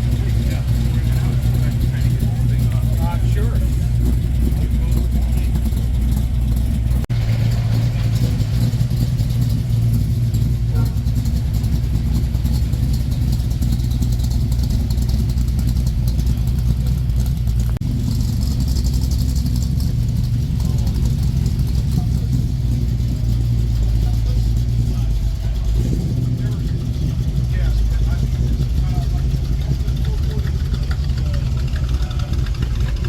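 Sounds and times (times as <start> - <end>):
car engines rumbling: 0.0 - 33.0.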